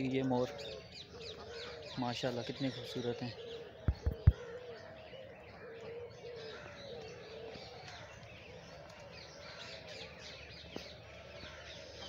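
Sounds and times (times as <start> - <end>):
small birds chirping: 0.0 - 12.0
wavering bird coo: 0.0 - 12.0.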